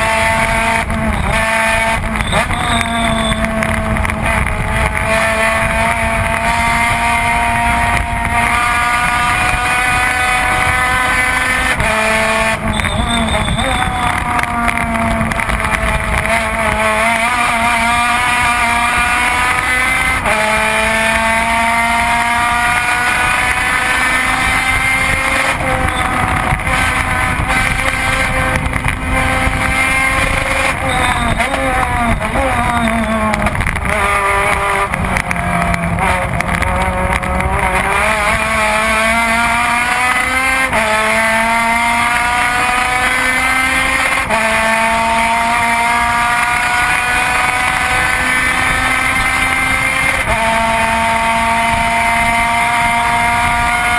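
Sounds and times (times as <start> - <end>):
race car engine at full throttle: 0.0 - 53.9.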